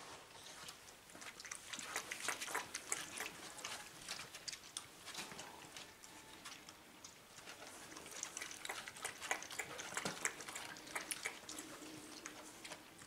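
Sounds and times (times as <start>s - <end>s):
dog licking a bowl: 1.1s - 13.0s.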